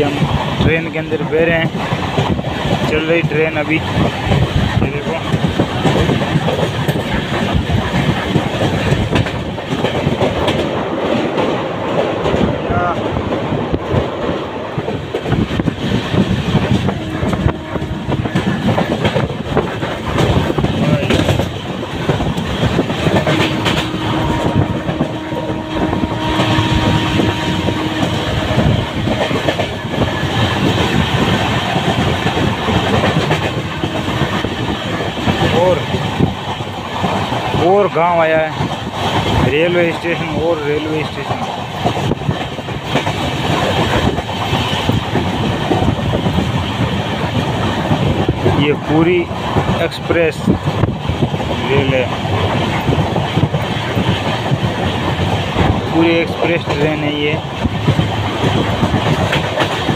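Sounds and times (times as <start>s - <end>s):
train wheels rumbling on rails: 0.0s - 59.9s
wheels clacking over rail joints: 0.0s - 59.9s.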